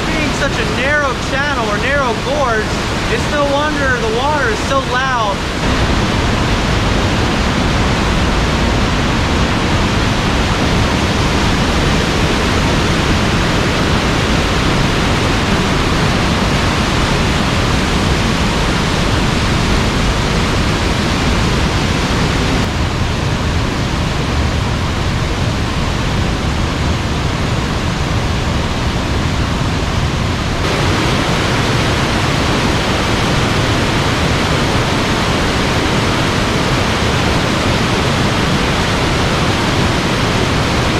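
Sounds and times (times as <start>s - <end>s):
stream rushing through gorge: 0.0s - 40.9s.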